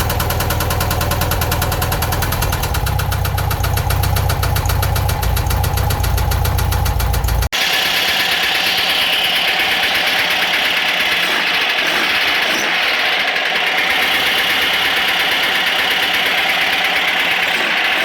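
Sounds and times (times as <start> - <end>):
engine running with fast knocking: 0.0 - 18.0.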